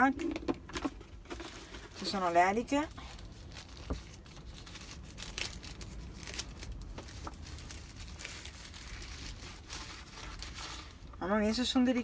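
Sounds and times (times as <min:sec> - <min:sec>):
plastic bag crinkling: 0:00.1 - 0:11.2.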